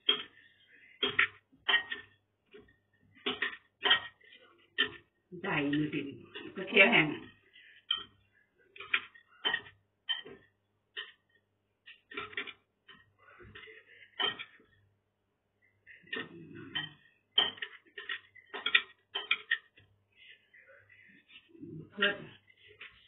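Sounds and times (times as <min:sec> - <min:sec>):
chopsticks and spoon clinking on bowl: 0:00.0 - 0:14.8, 0:15.8 - 0:23.0.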